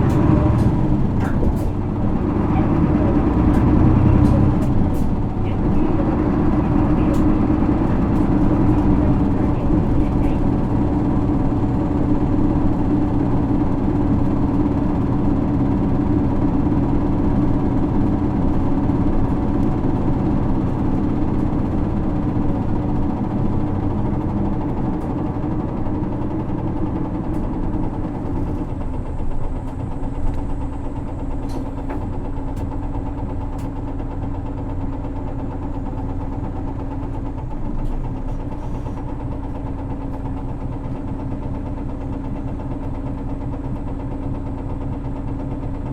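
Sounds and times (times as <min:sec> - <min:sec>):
diesel bus engine drone: 0:00.0 - 0:45.9.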